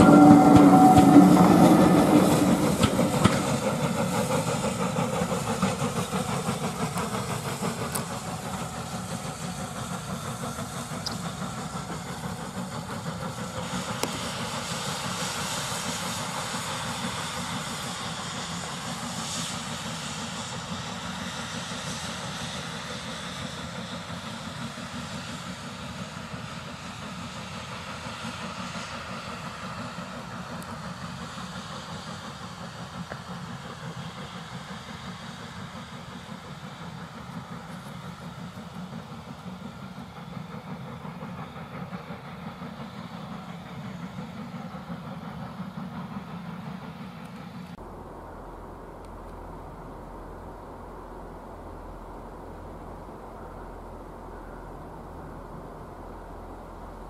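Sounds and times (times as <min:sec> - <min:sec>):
steam locomotive passing: 0:00.0 - 0:57.0.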